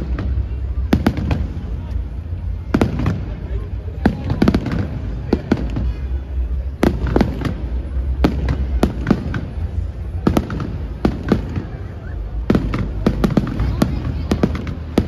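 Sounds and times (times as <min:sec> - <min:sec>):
fireworks bangs: 0:00.0 - 0:15.0
steady low rumble: 0:00.0 - 0:15.0.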